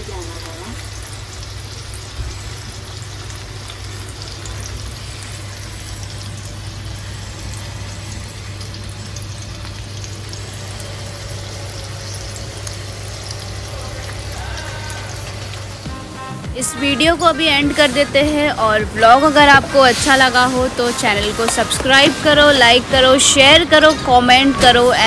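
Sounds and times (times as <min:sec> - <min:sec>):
fish sizzling in hot oil: 0:00.0 - 0:25.0
steady low hum: 0:00.0 - 0:25.0.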